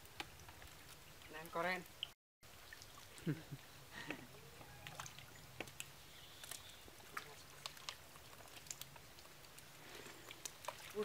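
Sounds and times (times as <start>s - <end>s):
small water splashes: 0.0s - 11.0s.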